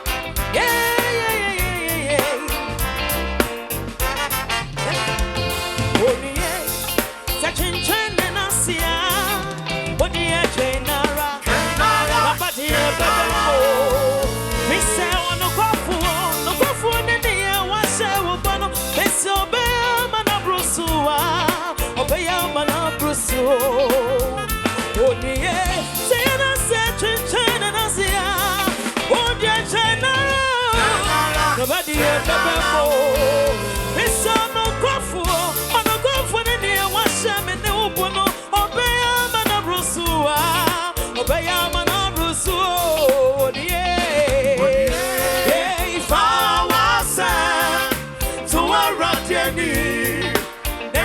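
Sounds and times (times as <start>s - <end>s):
gospel dance music: 0.0s - 51.0s.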